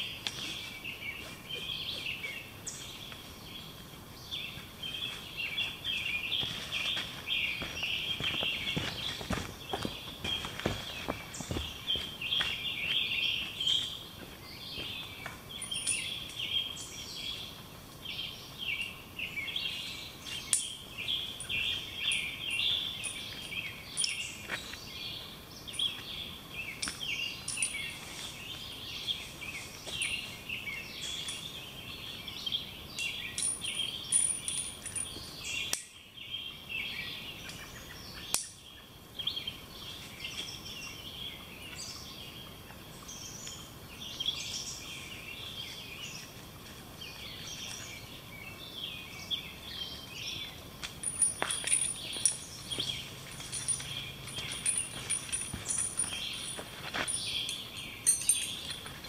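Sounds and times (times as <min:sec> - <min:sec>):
songbirds chorus: 0:00.0 - 0:59.0.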